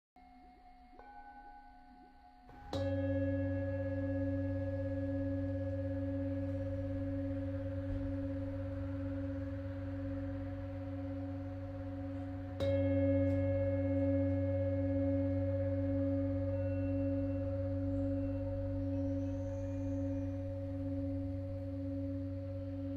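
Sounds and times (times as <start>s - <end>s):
singing bowl ringing: 0.2s - 22.9s.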